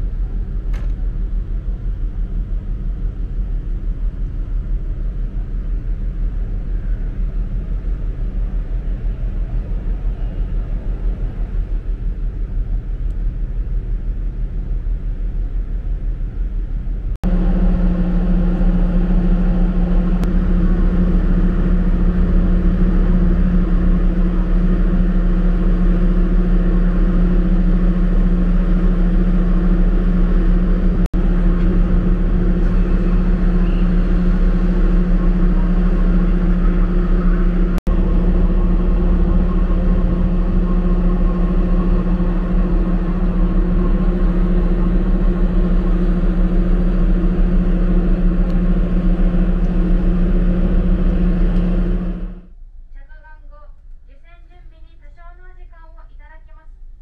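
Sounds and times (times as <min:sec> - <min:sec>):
low hum drone: 0:00.0 - 0:53.0
ferry engines low rumble: 0:00.0 - 0:57.0.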